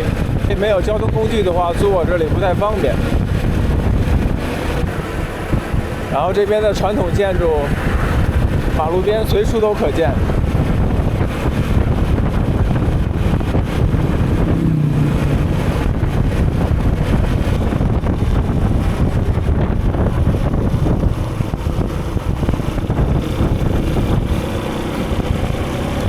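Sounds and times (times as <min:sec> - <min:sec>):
motorbike engine: 0:00.0 - 0:09.0, 0:09.6 - 0:26.0
wind buffeting microphone: 0:00.0 - 0:26.0.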